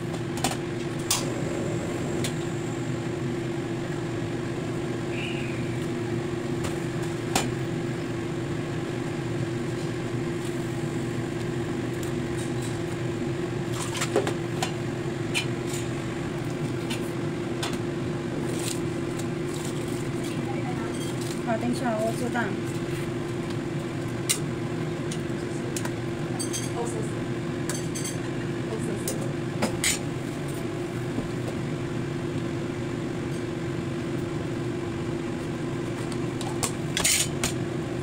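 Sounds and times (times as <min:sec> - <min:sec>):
kitchen hum: 0:00.0 - 0:38.0.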